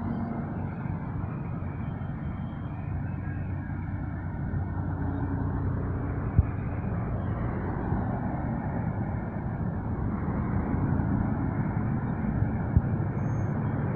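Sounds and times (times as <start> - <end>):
truck diesel engine rumbling: 0.0 - 13.9.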